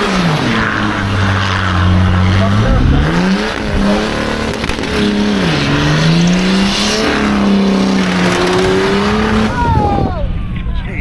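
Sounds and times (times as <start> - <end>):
spinning tyres hissing: 0.0 - 9.6
car engine revving high: 0.0 - 10.0.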